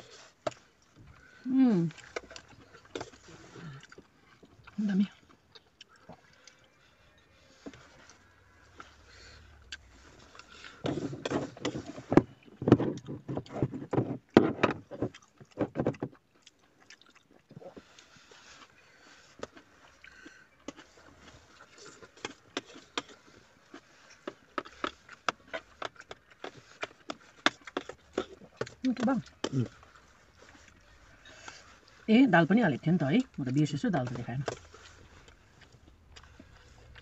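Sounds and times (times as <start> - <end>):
biting and chewing food: 0.0 - 37.0
clicks and rustles handling food: 0.0 - 37.0.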